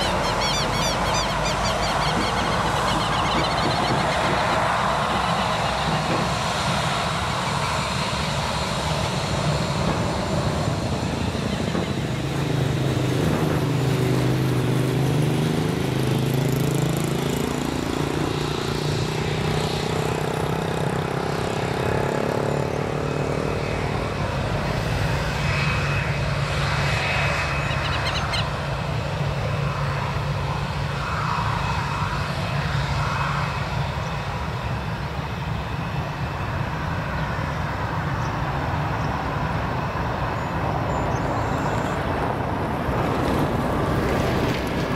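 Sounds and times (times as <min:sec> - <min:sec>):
jet engines running: 0:00.0 - 0:44.9.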